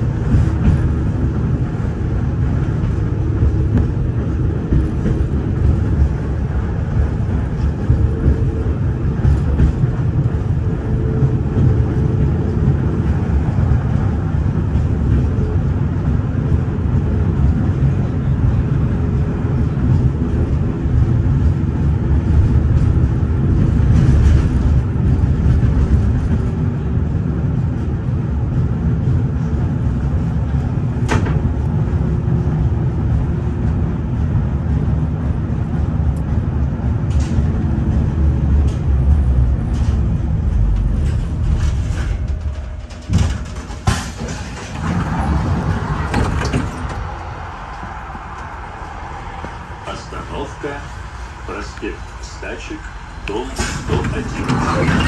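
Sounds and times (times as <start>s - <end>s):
tram wheels rumbling on rails: 0.0s - 55.0s.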